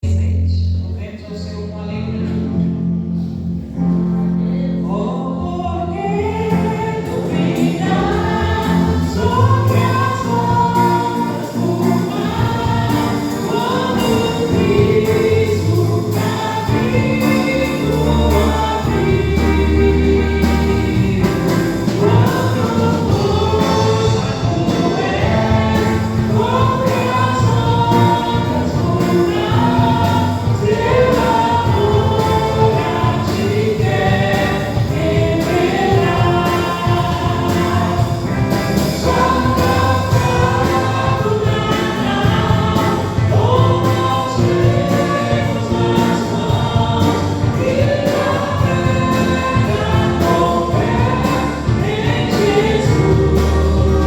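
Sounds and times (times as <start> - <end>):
sustained low bass notes: 0.0 - 54.0
instrumental accompaniment: 2.0 - 54.0
choir singing a hymn: 4.2 - 54.0.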